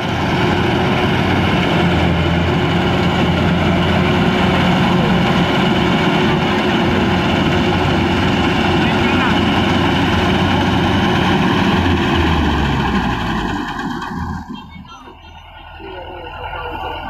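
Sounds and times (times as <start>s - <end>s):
diesel engine running steadily: 0.0s - 17.0s.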